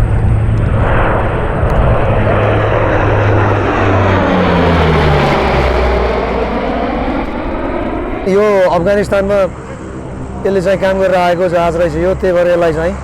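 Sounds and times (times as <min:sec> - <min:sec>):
aircraft engines droning past: 0:00.0 - 0:13.0.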